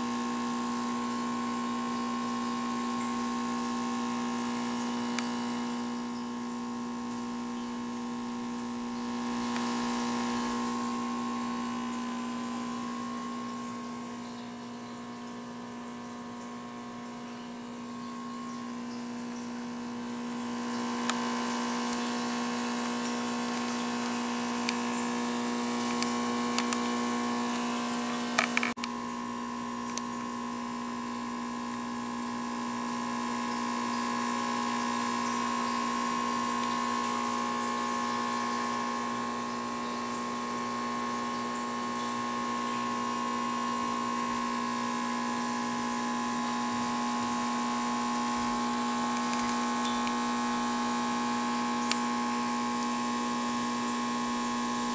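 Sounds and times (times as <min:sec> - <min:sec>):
pump motor humming with whine: 0:00.0 - 0:54.9.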